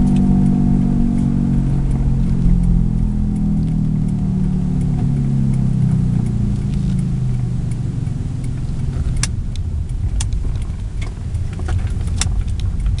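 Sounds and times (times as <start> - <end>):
humming drone: 0.0 - 13.0
sharp clicks: 0.0 - 13.0
wheel and road rumble: 0.0 - 13.0.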